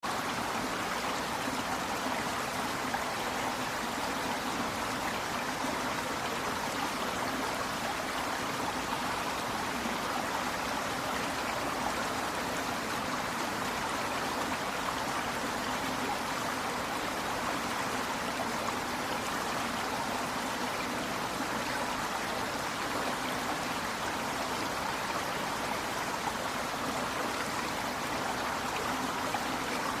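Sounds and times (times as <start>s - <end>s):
river water babbling: 0.0s - 30.0s.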